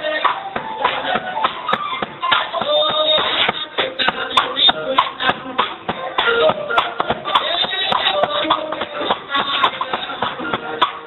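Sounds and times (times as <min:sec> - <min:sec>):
drum kit playing: 0:00.0 - 0:11.0.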